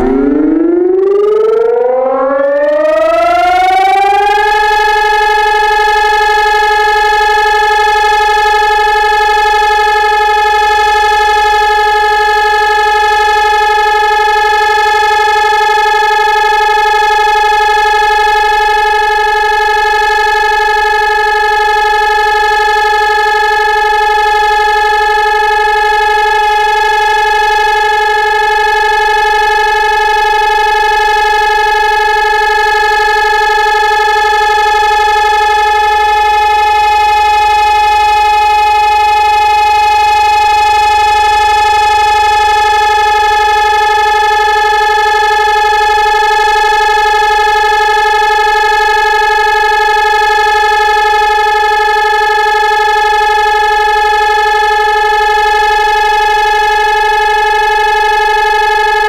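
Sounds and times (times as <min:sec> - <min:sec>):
civil defence siren steady tone: 0:00.0 - 0:59.0.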